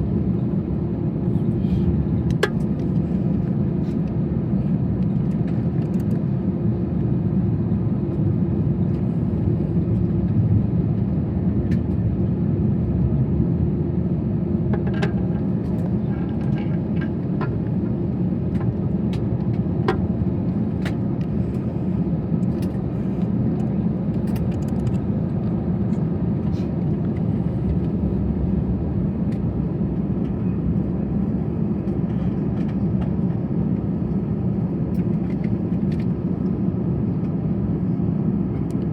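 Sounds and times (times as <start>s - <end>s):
airliner engine rumble and hum: 0.0s - 38.9s.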